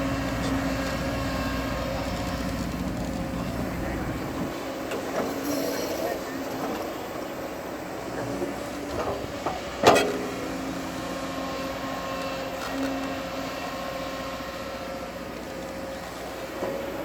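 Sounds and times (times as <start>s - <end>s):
bulldozer engine running: 0.0s - 17.0s.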